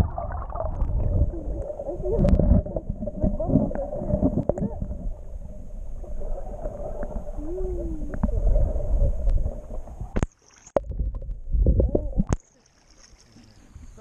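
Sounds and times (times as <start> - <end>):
muffled underwater rumble: 0.0 - 12.4
water splashing: 0.0 - 14.0.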